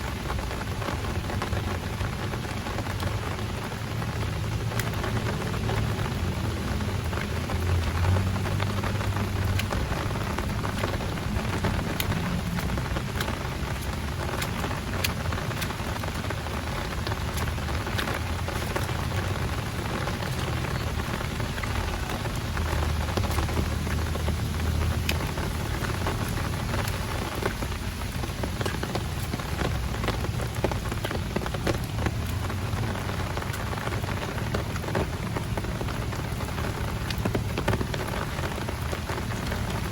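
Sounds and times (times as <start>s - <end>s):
heavy rain with drop taps: 0.0s - 39.9s
low rumble: 3.1s - 39.9s.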